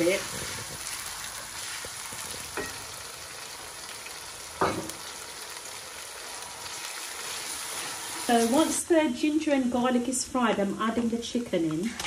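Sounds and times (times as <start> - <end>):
garlic sizzling in hot oil: 0.0 - 11.2.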